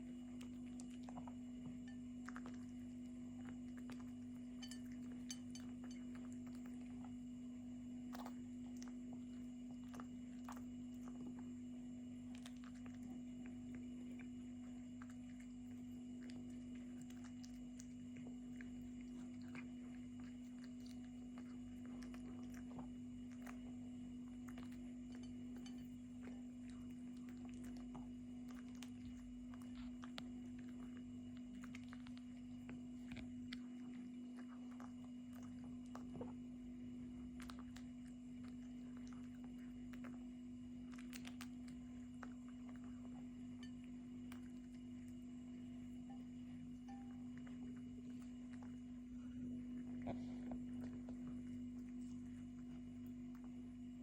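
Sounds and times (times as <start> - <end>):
cat chewing: 0.0 - 54.0
low hum: 0.0 - 54.0.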